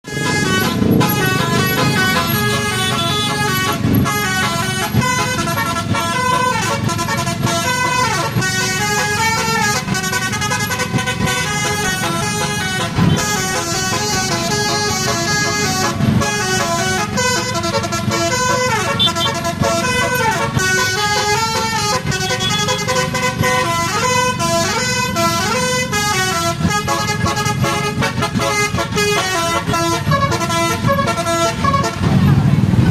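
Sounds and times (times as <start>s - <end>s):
musical bus horn melody: 0.0s - 32.8s.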